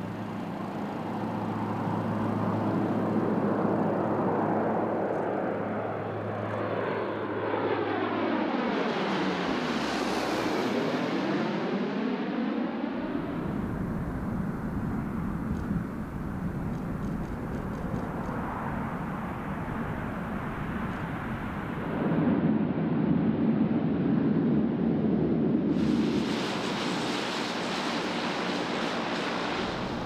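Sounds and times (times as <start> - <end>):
turboprop engines rumbling: 0.0 - 30.0.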